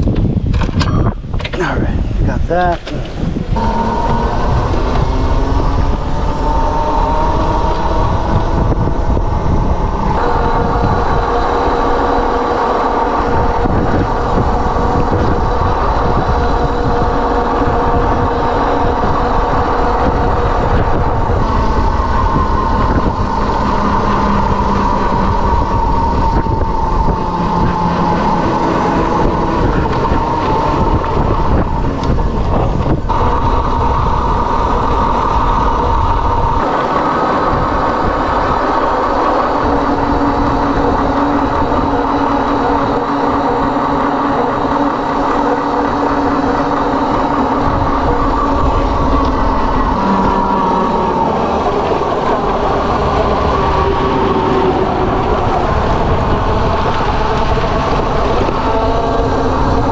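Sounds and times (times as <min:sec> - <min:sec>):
wind and road noise: 0:00.0 - 0:59.9
electric motor whine: 0:03.1 - 0:59.9.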